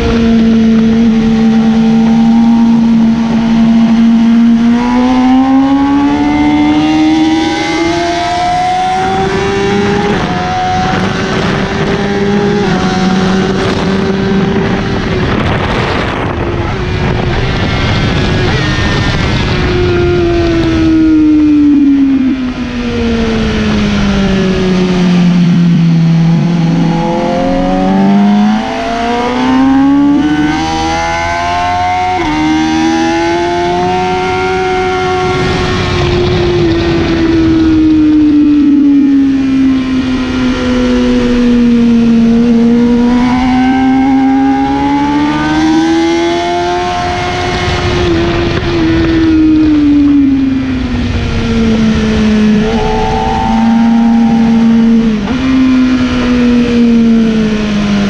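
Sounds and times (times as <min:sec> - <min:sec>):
wind rushing: 0:00.0 - 0:38.6, 0:46.6 - 0:57.4
motorcycle engine at speed: 0:00.0 - 0:58.0.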